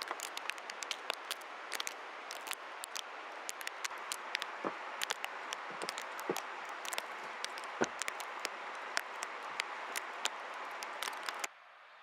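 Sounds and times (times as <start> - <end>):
blizzard wind hissing: 0.0 - 11.5
sharp irregular ticks: 0.0 - 11.5.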